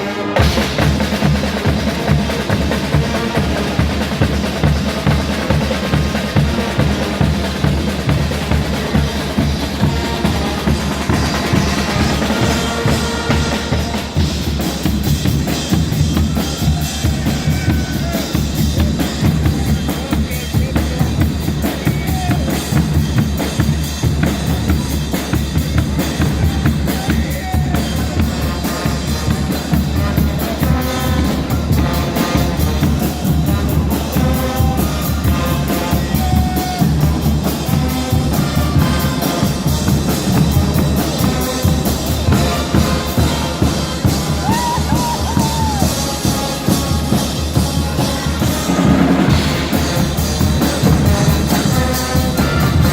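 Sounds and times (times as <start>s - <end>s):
band playing loudly: 0.0s - 52.9s
bass drum and snare drumming: 0.0s - 52.9s
brass tones: 0.0s - 52.9s.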